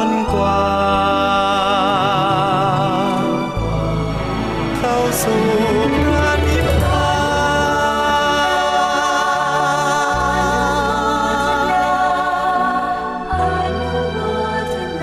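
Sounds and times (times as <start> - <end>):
musical accompaniment: 0.0 - 15.0
voices singing long notes: 0.0 - 15.0.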